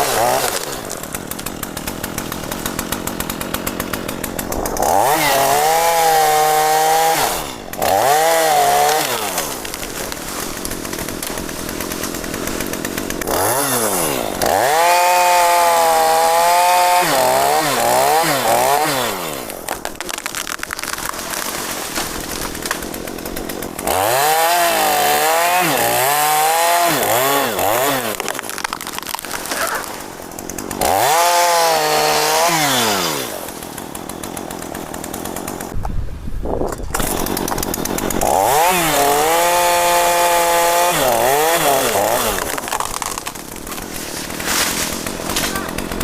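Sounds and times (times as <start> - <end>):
chainsaw cutting wood: 0.0 - 35.9, 36.6 - 46.0.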